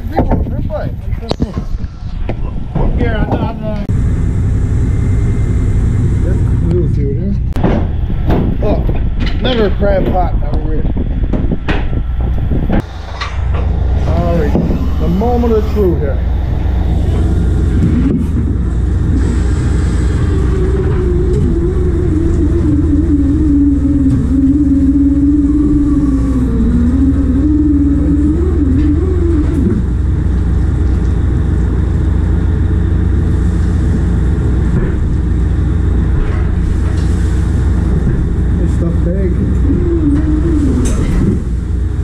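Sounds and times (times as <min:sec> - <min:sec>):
boat engine droning: 0:00.0 - 0:42.0
machinery whine wavering: 0:00.6 - 0:42.0.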